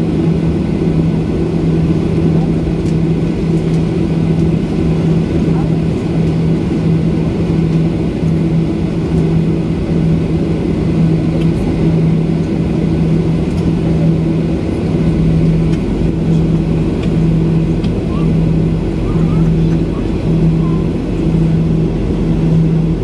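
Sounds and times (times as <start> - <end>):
jet engines rumbling hum: 0.0 - 23.0.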